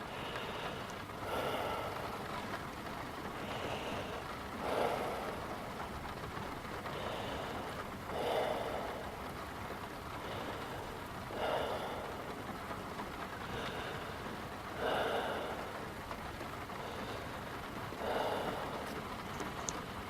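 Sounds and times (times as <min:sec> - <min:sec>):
person breathing deeply: 0:00.0 - 0:19.8
steady background hiss: 0:00.0 - 0:20.0.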